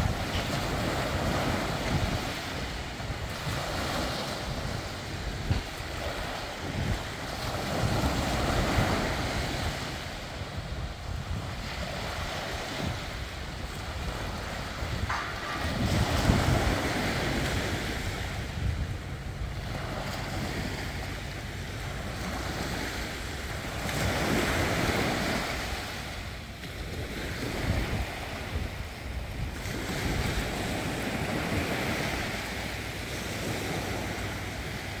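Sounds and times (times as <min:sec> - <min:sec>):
surf washing up beach: 0:00.0 - 0:35.0
wind buffeting microphone: 0:00.0 - 0:35.0.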